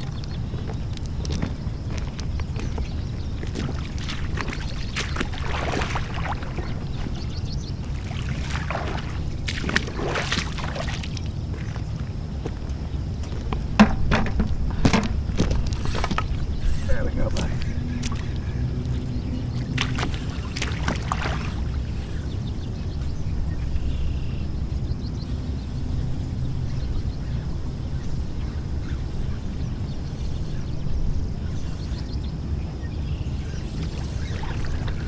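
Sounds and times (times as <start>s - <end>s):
low outdoor rumble: 0.0s - 35.0s.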